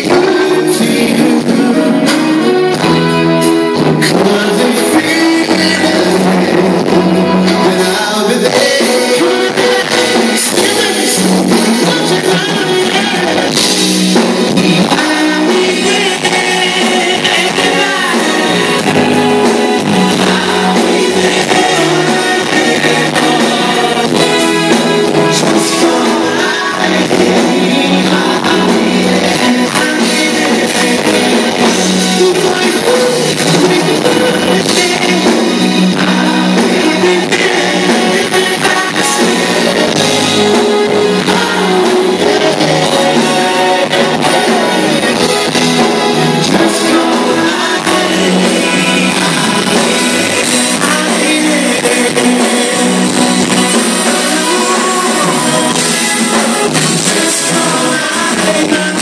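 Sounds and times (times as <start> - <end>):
band with guitar and drums: 0.0 - 59.0
male vocal group singing: 0.0 - 59.0.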